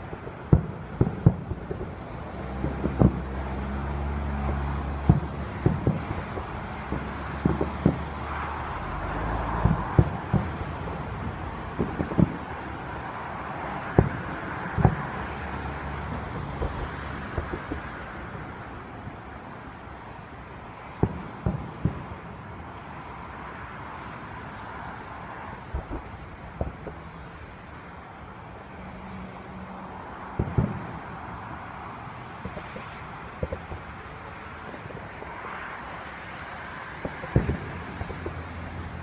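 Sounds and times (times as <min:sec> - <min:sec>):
distant fireworks booming: 0:00.0 - 0:19.2, 0:20.9 - 0:23.0, 0:25.6 - 0:28.1, 0:30.2 - 0:35.5, 0:36.3 - 0:39.0
road traffic noise: 0:00.0 - 0:39.0.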